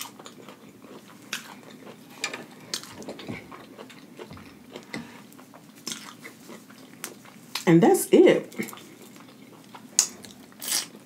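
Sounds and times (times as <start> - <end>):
chewing crunchy food: 0.0 - 7.7, 8.5 - 11.0.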